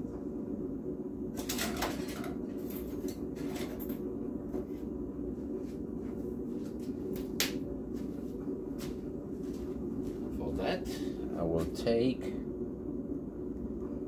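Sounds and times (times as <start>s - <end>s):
low workshop hum: 0.0s - 14.0s.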